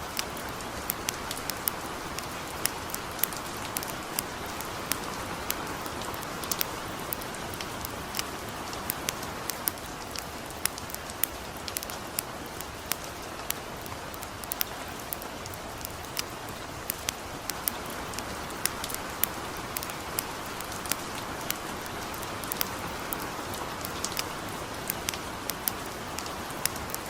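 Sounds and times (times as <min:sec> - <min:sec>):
campfire crackling: 0:00.0 - 0:27.0
light rain hissing: 0:00.0 - 0:27.0.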